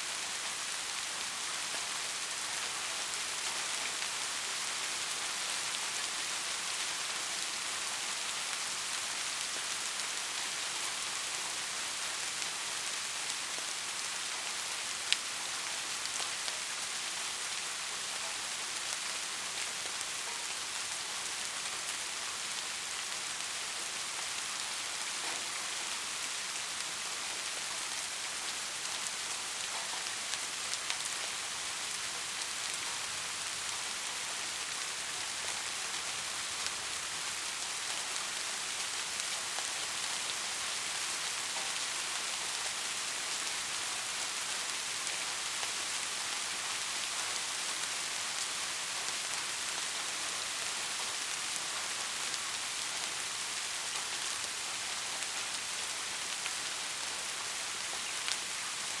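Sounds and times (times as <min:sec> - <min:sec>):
heavy rain hiss: 0:00.0 - 0:59.0.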